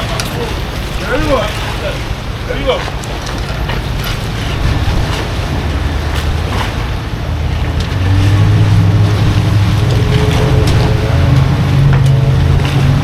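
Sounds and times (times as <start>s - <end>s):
boat engine running: 0.0s - 13.0s
waves: 0.0s - 13.0s
wind: 0.0s - 13.0s.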